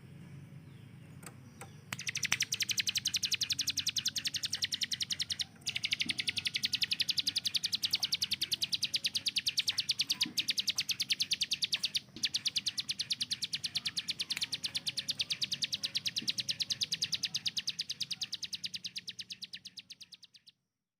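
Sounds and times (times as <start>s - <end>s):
bird rapid rattling song: 1.0s - 20.5s.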